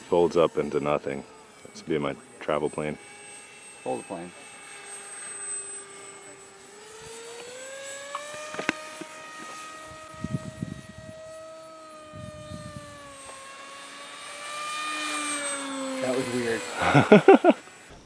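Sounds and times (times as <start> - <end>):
model plane motor whine: 0.0 - 18.0.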